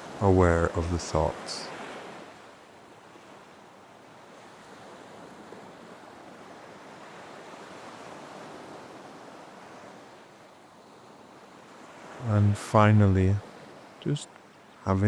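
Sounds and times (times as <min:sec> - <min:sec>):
ocean surf washing on shore: 0:00.0 - 0:15.0.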